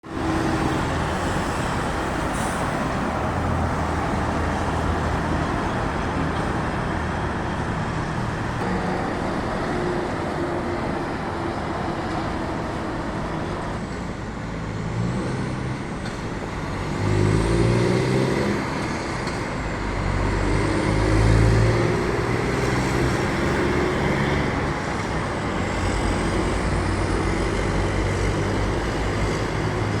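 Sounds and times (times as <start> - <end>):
heavy truck engine rumbling: 0.0 - 30.0
traffic noise: 0.0 - 30.0.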